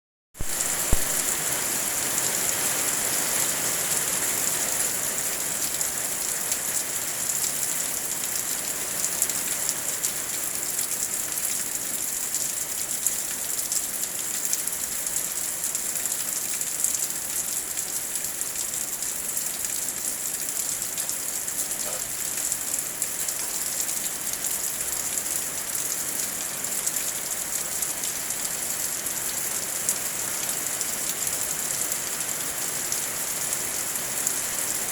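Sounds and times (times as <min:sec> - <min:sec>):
heavy rain falling: 0:00.4 - 0:34.9.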